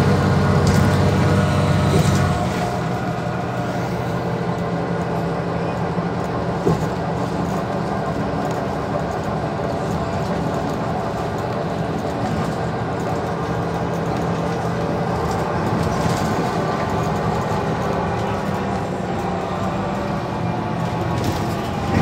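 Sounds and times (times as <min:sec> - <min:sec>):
bus engine drone: 0:00.0 - 0:22.0
road and tyre noise: 0:00.0 - 0:22.0.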